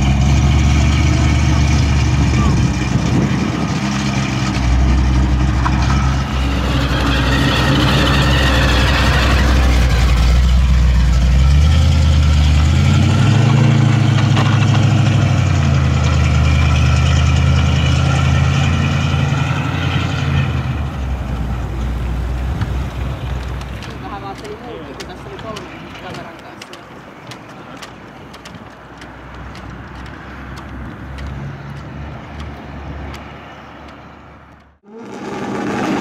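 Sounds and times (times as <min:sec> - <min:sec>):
car engine pulling away: 0:00.0 - 0:36.0.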